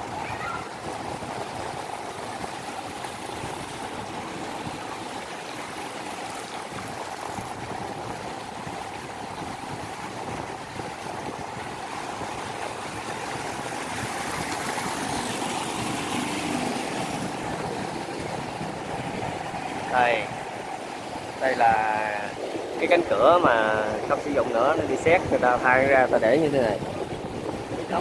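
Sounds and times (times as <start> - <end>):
river water rushing through sluice: 0.0 - 28.0.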